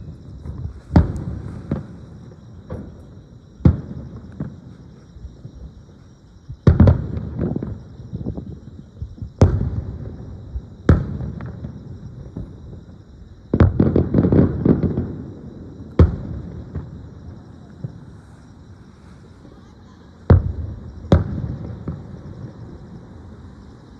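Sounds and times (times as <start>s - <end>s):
fireworks crackling pops: 0.0s - 8.5s, 9.2s - 12.9s, 13.5s - 23.6s
fireworks booming: 0.0s - 23.9s.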